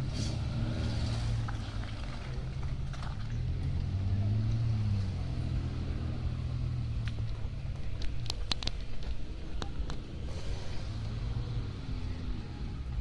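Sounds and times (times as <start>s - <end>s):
off-road vehicle engine: 0.0s - 13.0s.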